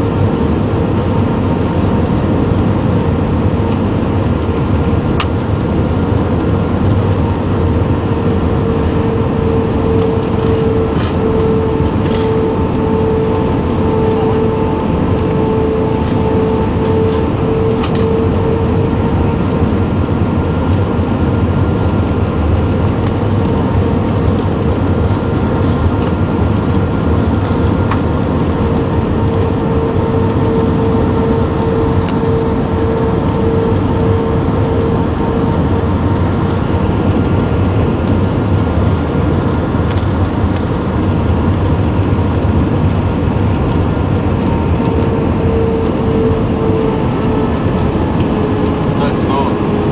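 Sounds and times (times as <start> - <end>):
aircraft cabin drone: 0.0 - 49.9
steady hum: 0.0 - 49.9.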